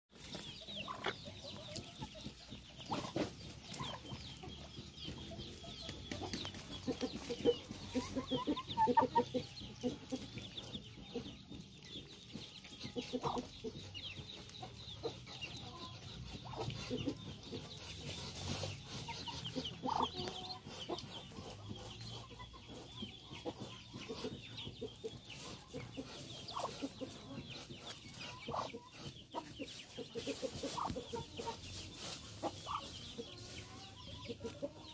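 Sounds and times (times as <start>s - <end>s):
chickens clucking: 0.1s - 34.9s
ducklings peeping: 0.2s - 34.9s.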